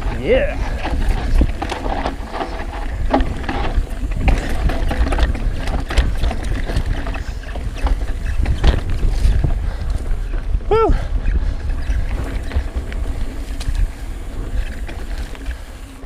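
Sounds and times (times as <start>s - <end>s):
bike chain clicks and rattles: 0.0s - 16.0s
tyre noise on dirt: 0.0s - 16.0s
wind rumble on microphone: 0.0s - 16.0s.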